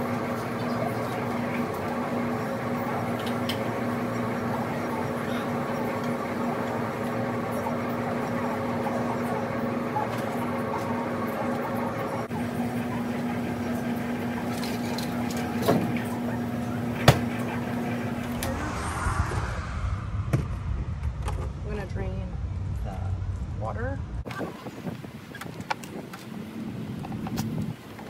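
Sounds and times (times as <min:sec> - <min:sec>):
outdoor noise: 0:00.0 - 0:28.0.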